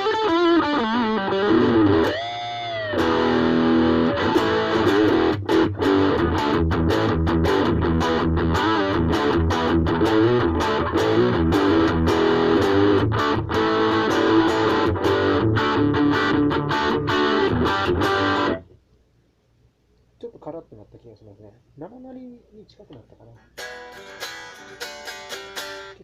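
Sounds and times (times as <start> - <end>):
electric guitar chords: 0.0 - 18.7, 23.6 - 26.0.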